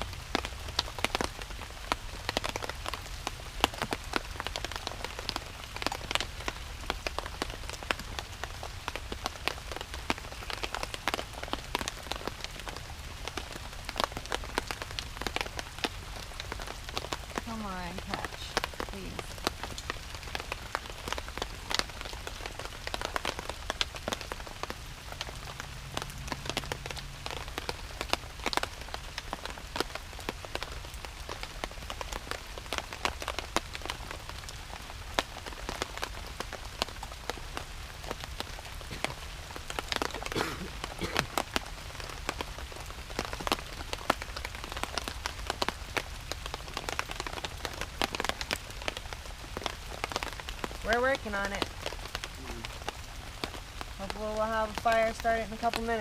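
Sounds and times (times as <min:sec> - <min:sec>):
raindrops tapping on a surface: 0:00.0 - 0:56.0
steady rain hiss: 0:00.0 - 0:56.0.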